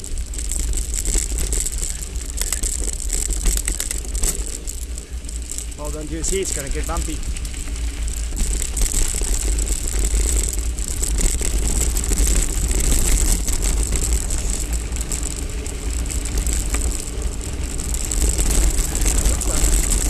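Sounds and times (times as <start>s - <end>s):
mountain bike rattling: 0.0s - 20.0s
wind rumble on microphone: 0.0s - 20.0s.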